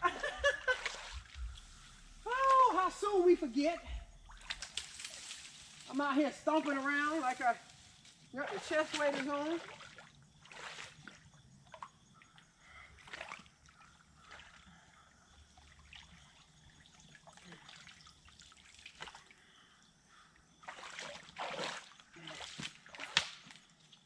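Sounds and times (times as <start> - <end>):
splashes in shallow water: 0.0 - 7.7, 8.3 - 14.7, 15.4 - 19.4, 20.5 - 23.8
creek water trickling: 0.0 - 24.0.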